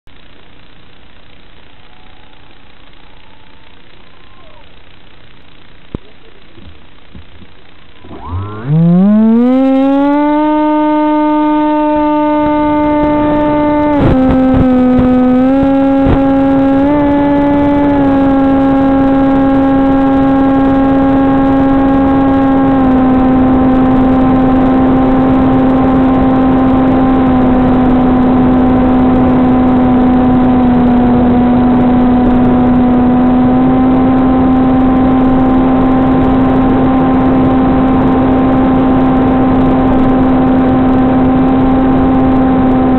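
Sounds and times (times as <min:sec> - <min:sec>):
electric motor propeller whine: 0:07.7 - 0:42.9.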